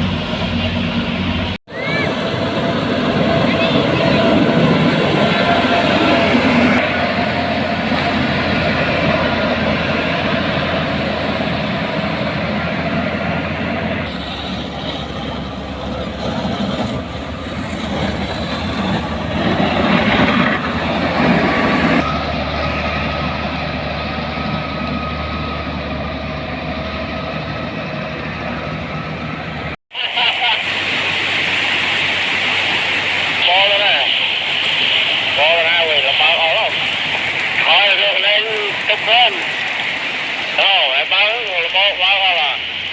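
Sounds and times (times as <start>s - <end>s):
heavy machinery engines running: 0.0s - 42.9s.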